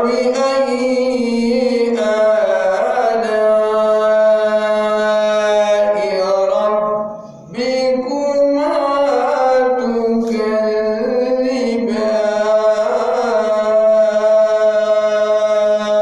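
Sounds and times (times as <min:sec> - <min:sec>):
man chanting into microphone: 0:00.0 - 0:16.0.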